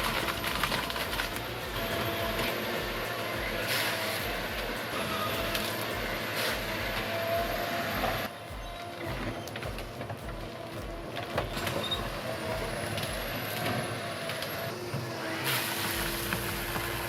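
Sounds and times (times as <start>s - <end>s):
low rhythmic pulse: 0.0s - 14.9s, 15.9s - 17.0s
heavy machinery running: 0.0s - 17.0s.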